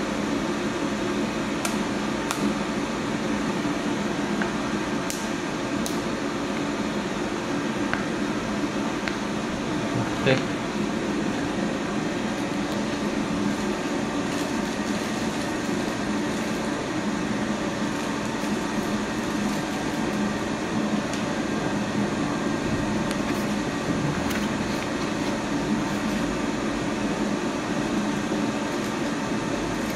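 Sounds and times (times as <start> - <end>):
workshop machinery humming: 0.0 - 29.9.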